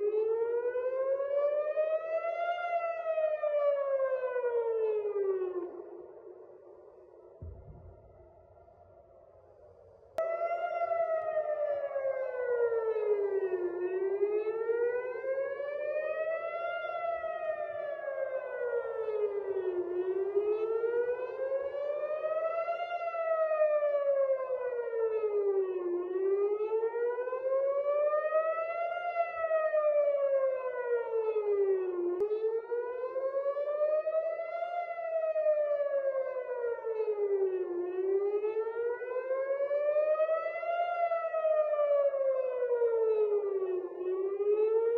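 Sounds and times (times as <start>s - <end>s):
air-raid siren wailing: 0.0s - 7.9s, 10.2s - 44.9s.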